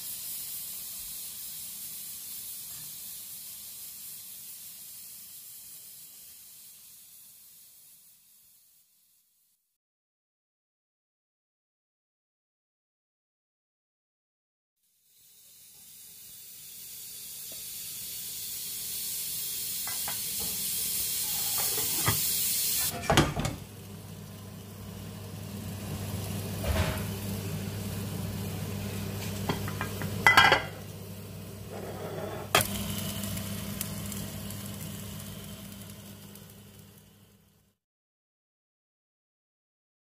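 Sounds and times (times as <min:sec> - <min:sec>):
curry sizzling in pan: 0:00.0 - 0:09.5, 0:15.0 - 0:37.7.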